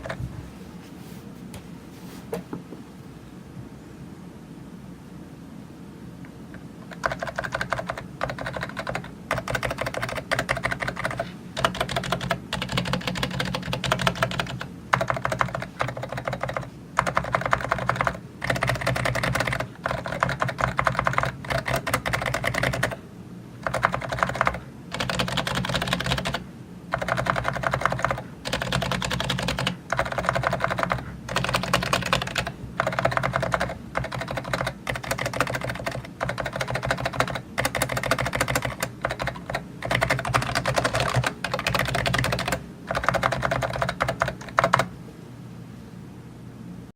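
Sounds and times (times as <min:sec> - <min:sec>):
soft keyboard typing: 0:00.0 - 0:00.2, 0:06.5 - 0:23.0, 0:23.6 - 0:44.9.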